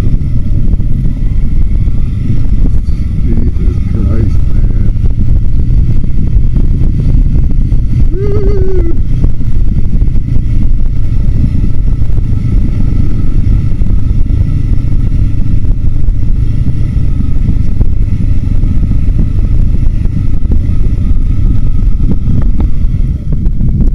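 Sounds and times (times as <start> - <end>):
motorcycle engine rumble: 0.0 - 23.9
wind buffeting microphone: 0.0 - 23.9.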